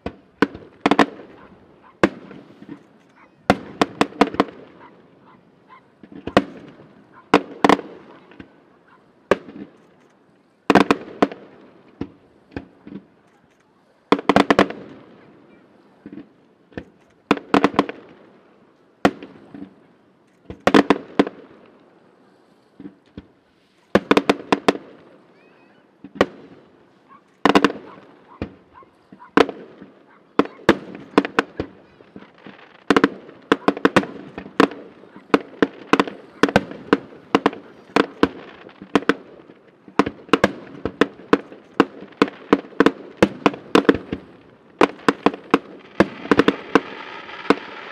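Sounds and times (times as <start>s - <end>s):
fireworks bursting with sharp bangs: 0.0s - 47.9s.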